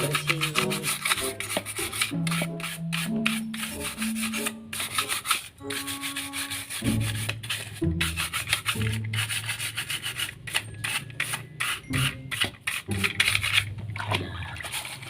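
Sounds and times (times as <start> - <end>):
brush scrubbing plastic: 0.0 - 15.0.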